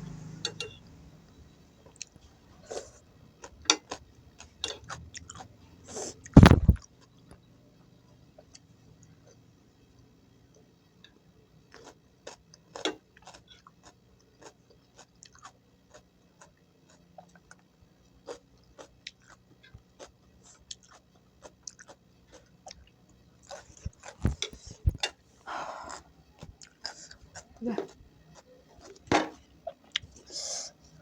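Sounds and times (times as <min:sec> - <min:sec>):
close-up chewing vegetables: 0:01.8 - 0:07.3, 0:11.6 - 0:31.0.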